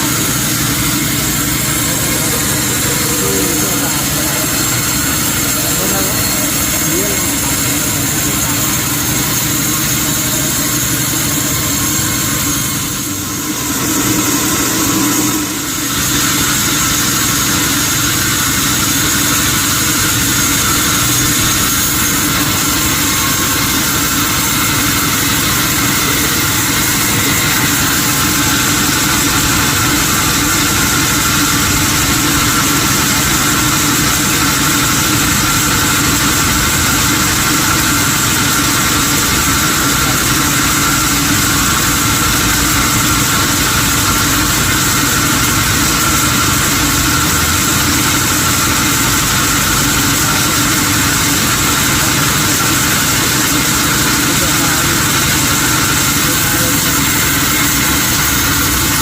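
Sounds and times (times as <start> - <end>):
high machine whine: 0.0 - 59.0
machinery engine drone: 0.0 - 59.0.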